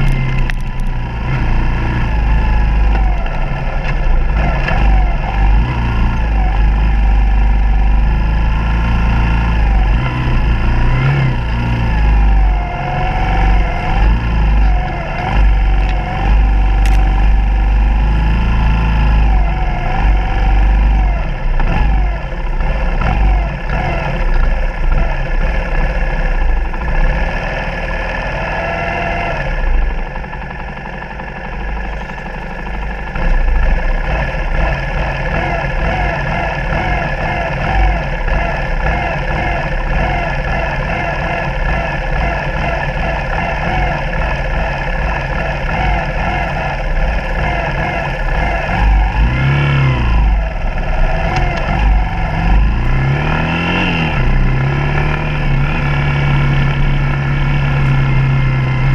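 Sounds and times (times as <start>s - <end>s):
motorcycle engine: 0.0s - 58.9s.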